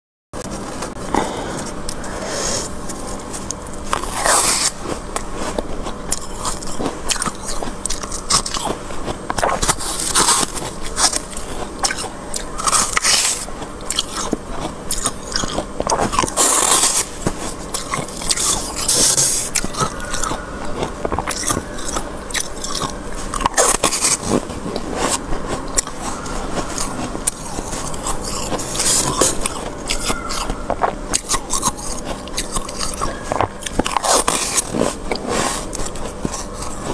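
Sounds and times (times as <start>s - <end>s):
frost crunching while chewed: 0.5s - 36.9s
spoon scraping frost: 1.6s - 36.9s.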